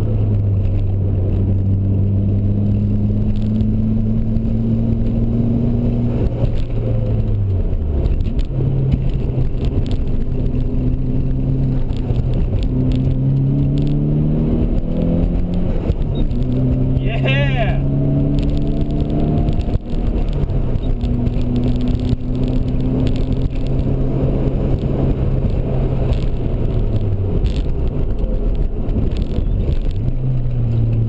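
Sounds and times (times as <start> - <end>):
car engine revving: 0.0 - 31.0
road and wind noise: 0.0 - 31.0.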